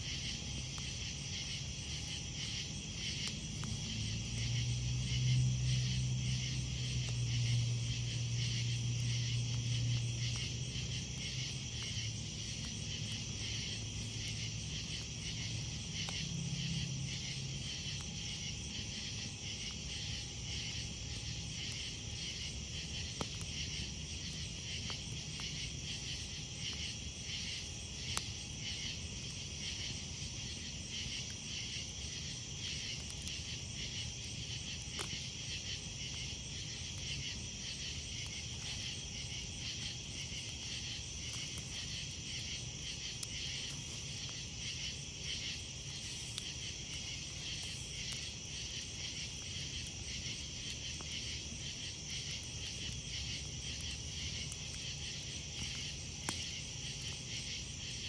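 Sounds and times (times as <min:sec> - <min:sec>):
campfire crackles: 0:00.0 - 0:58.0
crickets trilling: 0:00.0 - 0:58.0.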